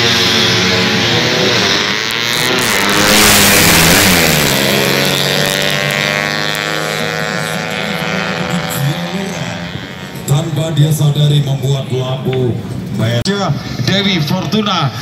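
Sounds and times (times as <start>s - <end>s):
motorcycles passing at full throttle: 0.0s - 13.2s.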